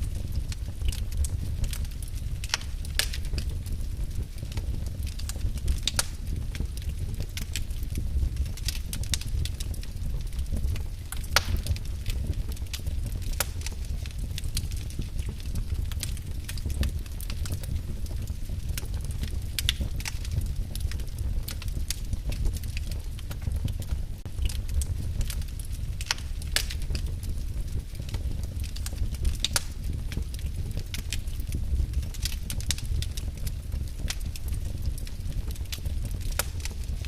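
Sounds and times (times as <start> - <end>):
fire crackling with pops: 0.0 - 37.0
low rumble of fire: 0.0 - 37.0.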